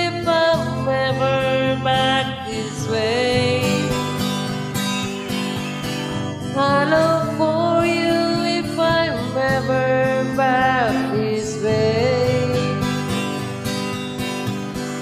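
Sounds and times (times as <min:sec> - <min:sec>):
acoustic guitar accompaniment: 0:00.0 - 0:15.0.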